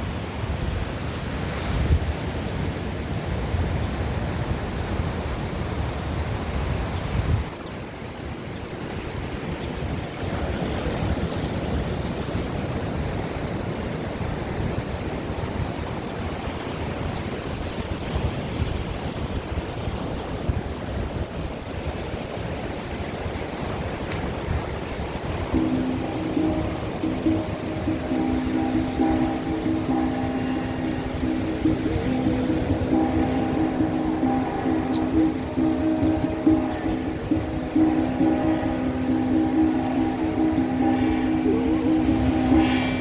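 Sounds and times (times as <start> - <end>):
surf washing on shore: 0.0 - 43.0
wind rumbling on microphone: 0.0 - 43.0.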